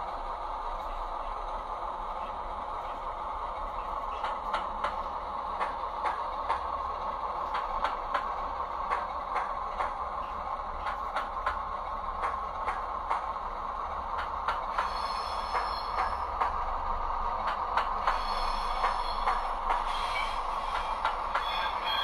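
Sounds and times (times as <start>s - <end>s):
model locomotive drone: 0.0s - 22.0s
wheels clicking over rail joints: 0.0s - 22.0s.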